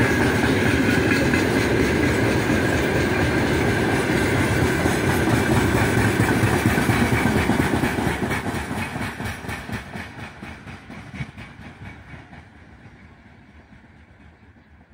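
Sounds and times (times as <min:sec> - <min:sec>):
train wheels clattering on rail joints: 0:00.0 - 0:14.9.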